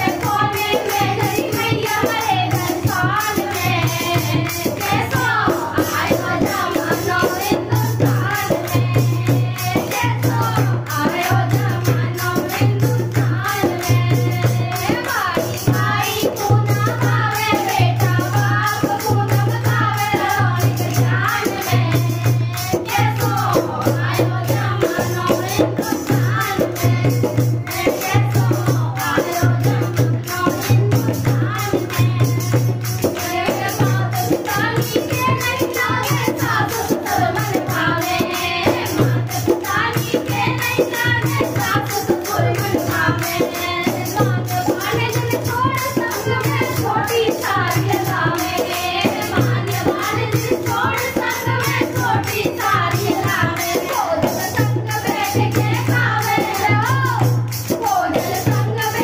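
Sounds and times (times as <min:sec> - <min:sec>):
low regular percussion beat: 0:00.0 - 0:59.0
women singing devotional song: 0:00.0 - 0:59.0.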